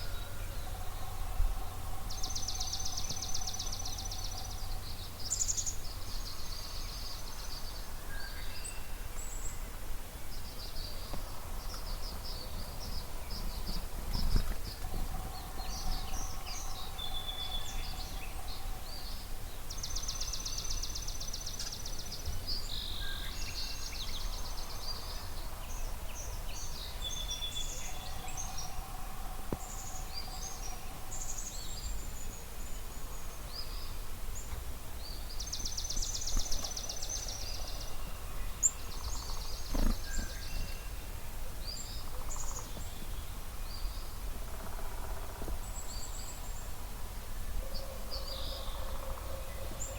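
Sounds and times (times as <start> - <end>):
songbirds chirping and whistling: 0.0 - 49.9.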